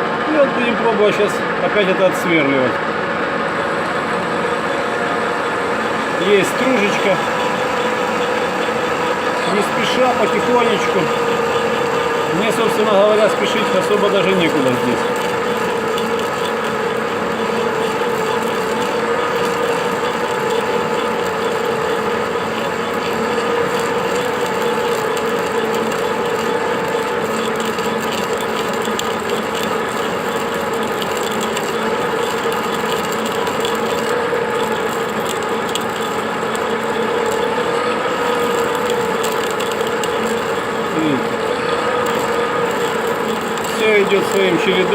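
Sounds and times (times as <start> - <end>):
drill boring metal: 0.0 - 44.9
metal lathe running: 0.0 - 44.9.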